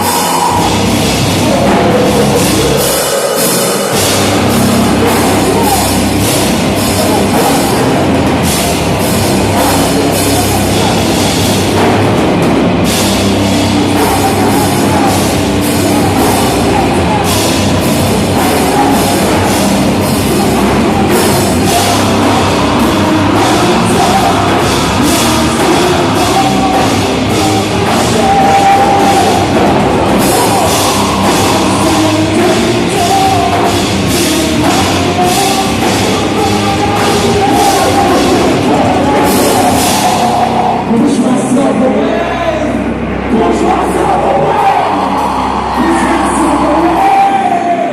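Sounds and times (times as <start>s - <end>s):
heavy rock band playing: 0.0s - 47.9s.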